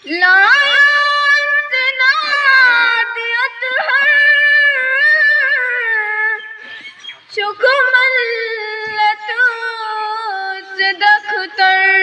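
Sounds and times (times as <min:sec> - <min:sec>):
girl singing long notes: 0:00.0 - 0:06.4, 0:07.4 - 0:12.0.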